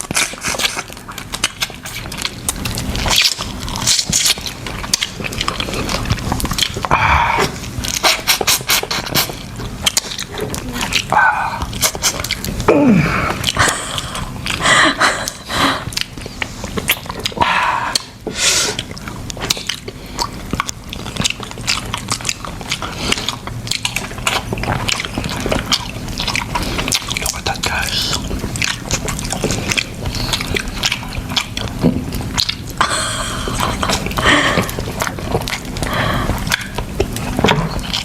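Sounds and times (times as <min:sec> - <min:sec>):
wet chewing and lip-smacking: 0:00.0 - 0:38.0.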